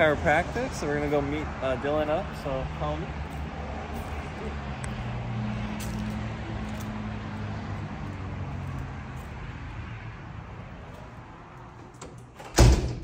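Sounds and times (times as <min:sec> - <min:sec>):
vehicle engine hum: 0:00.0 - 0:12.5
traffic noise: 0:00.0 - 0:13.0.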